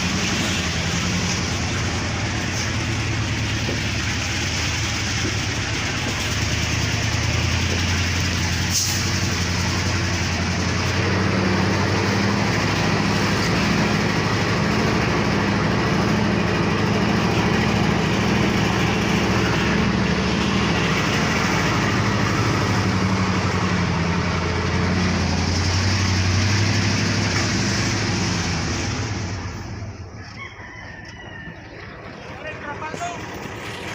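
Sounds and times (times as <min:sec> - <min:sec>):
heavy diesel engine running: 0:00.0 - 0:33.9.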